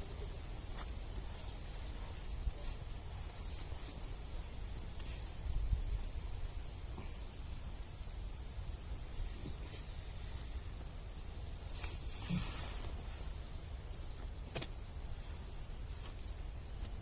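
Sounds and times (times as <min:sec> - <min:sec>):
insect chirping in trills: 0:00.0 - 0:17.0
low wind rumble: 0:00.0 - 0:17.0.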